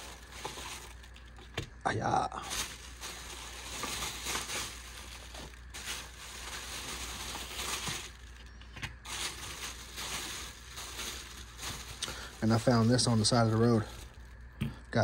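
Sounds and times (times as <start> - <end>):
packaging rustling and crinkling: 0.0 - 14.4.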